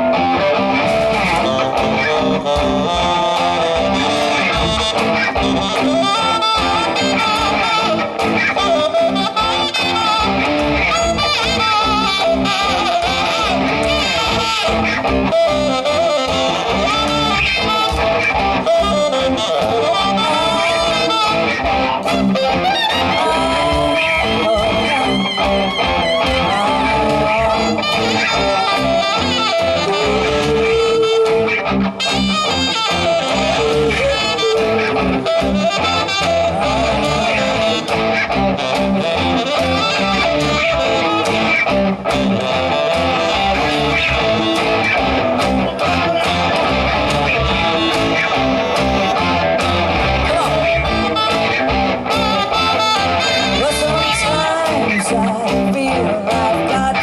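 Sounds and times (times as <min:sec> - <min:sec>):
guitar melody: 0:00.0 - 0:57.0
rock band playing: 0:00.0 - 0:57.0.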